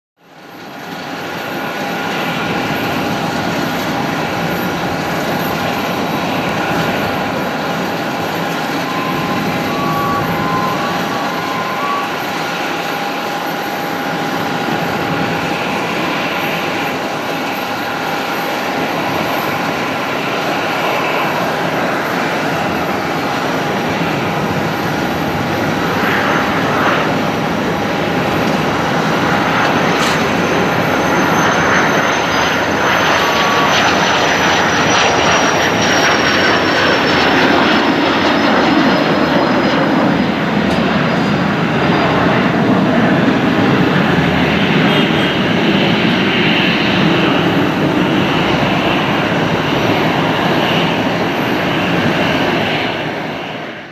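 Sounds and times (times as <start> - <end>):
jet engine high whine: 0.2 - 53.9
jet engine rush: 0.2 - 53.9.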